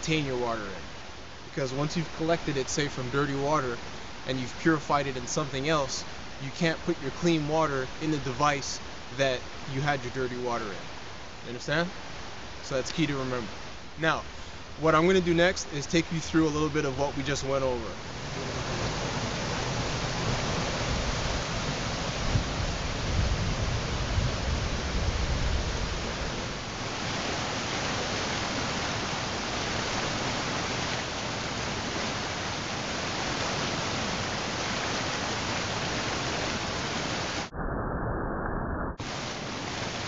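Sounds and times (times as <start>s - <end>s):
waterfall rushing over boulders: 0.0s - 37.5s, 39.0s - 40.0s.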